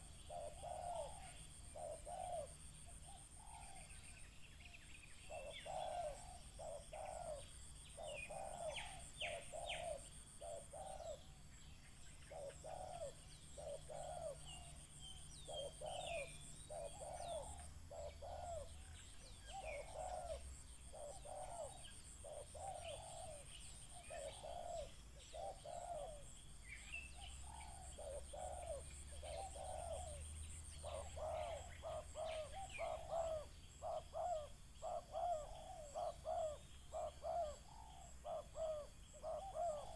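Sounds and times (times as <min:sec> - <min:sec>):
doves cooing: 0:00.0 - 0:04.2, 0:05.2 - 0:11.4, 0:12.1 - 0:39.9
small birds chirping: 0:00.0 - 0:39.9.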